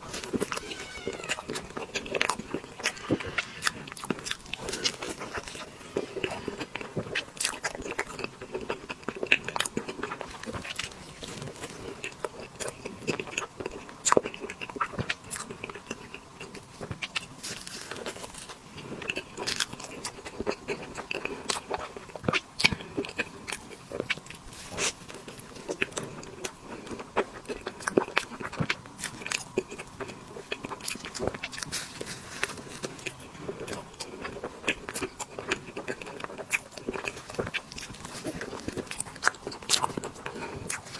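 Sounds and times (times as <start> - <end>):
wet chewing and mouth clicks: 1.5 - 40.9.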